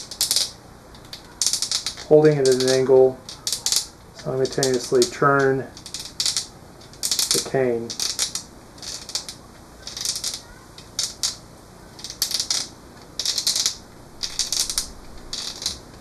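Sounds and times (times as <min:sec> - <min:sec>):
knife blade scraping cane: 0:00.0 - 0:11.4, 0:12.0 - 0:15.8.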